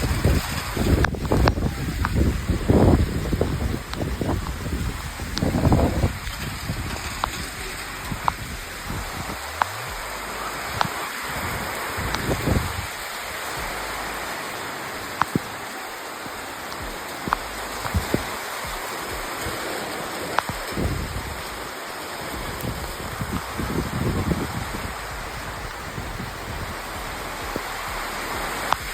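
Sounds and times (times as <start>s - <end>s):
low rumbles: 0.0s - 28.9s
raindrops ticking close by: 0.0s - 28.9s
steady rain falling: 0.0s - 28.9s.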